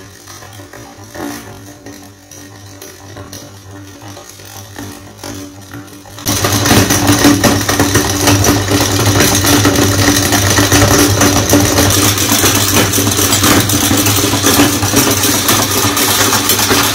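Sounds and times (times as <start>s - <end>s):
electric meat grinder humming: 0.0s - 16.9s.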